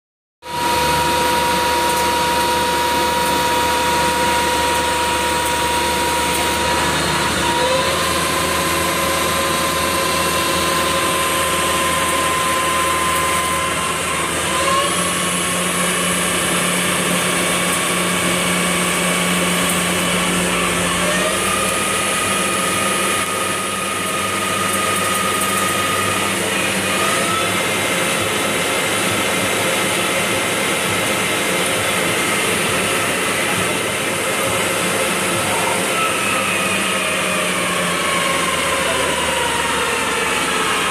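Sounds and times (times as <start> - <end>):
lathe spindle whining: 0.4 - 40.9.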